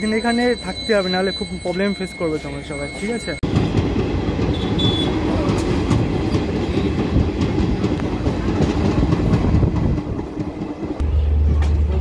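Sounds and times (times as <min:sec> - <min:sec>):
train low rumble: 0:01.5 - 0:12.0.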